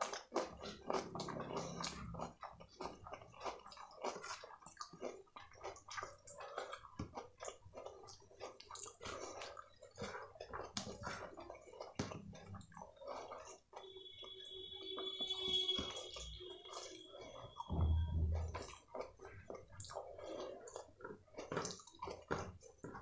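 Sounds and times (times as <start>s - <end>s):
fingers squishing food: 0.0s - 14.3s, 18.5s - 23.0s.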